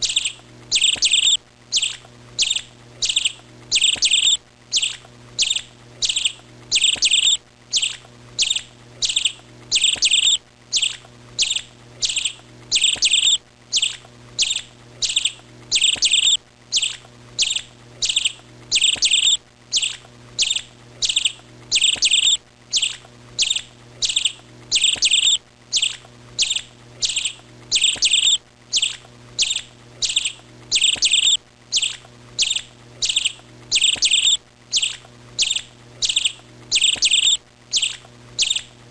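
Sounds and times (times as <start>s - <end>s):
small songbird chirping: 0.0s - 38.7s
faint low hum: 0.0s - 38.9s.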